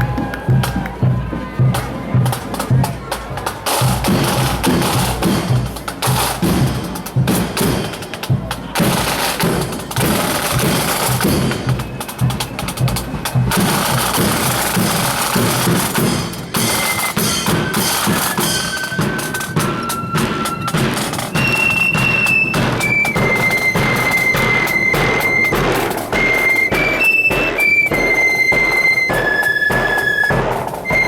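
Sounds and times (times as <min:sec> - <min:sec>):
snare and bass drums: 0:00.0 - 0:31.0.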